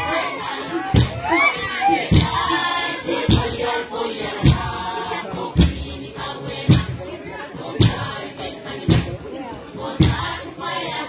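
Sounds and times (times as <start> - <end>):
deep thumping beat: 0.0 - 9.4, 10.0 - 10.7
group of voices singing: 0.0 - 11.0.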